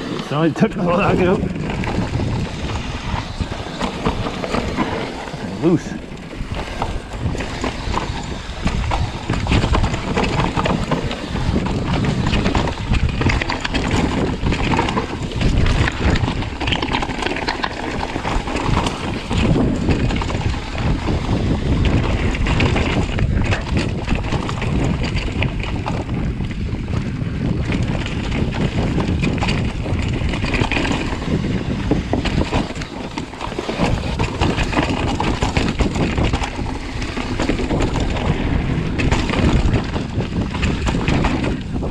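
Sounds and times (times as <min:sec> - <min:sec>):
wind on microphone: 0:00.0 - 0:41.9
bike clattering over rocks: 0:00.2 - 0:41.9.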